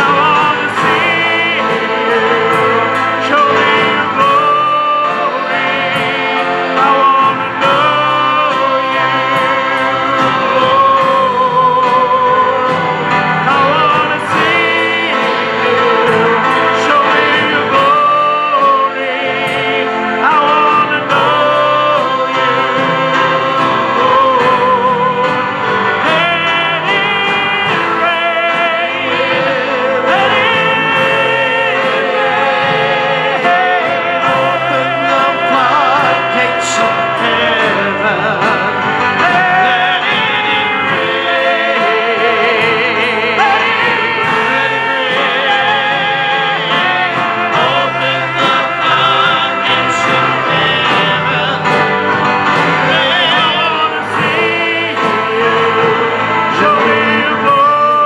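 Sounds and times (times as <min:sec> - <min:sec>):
backing singers: 0:00.0 - 0:58.0
electric bass: 0:00.0 - 0:58.0
keyboard: 0:00.0 - 0:58.0
man singing into microphone: 0:00.0 - 0:58.0.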